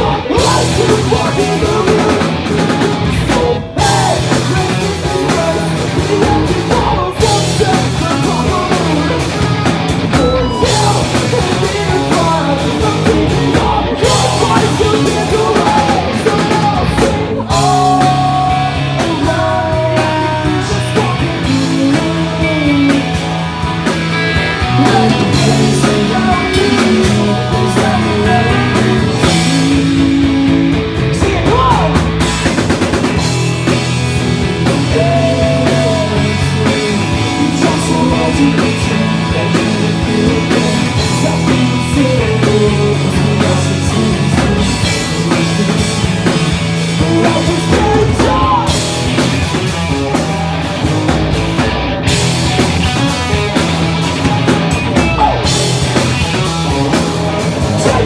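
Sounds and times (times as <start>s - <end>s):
person singing: 0.0s - 23.5s, 24.1s - 50.6s, 54.0s - 58.0s
bass guitar: 0.0s - 58.0s
distorted electric guitars: 0.0s - 58.0s
drum kit: 0.0s - 58.0s.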